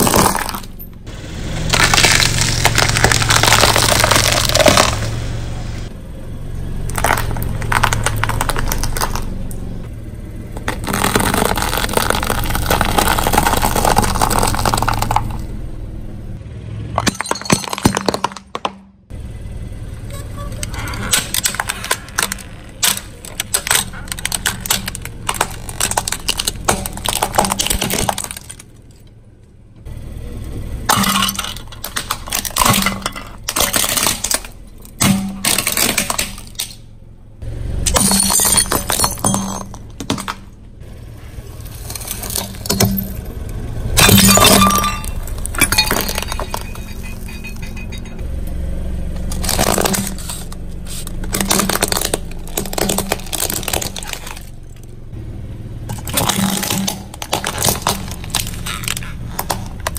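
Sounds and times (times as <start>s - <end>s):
plastic crunching under a tyre: 0.0s - 5.6s, 6.8s - 15.6s, 20.6s - 29.2s, 30.9s - 36.9s, 37.8s - 43.4s, 44.0s - 48.2s, 49.0s - 55.2s, 55.8s - 59.9s.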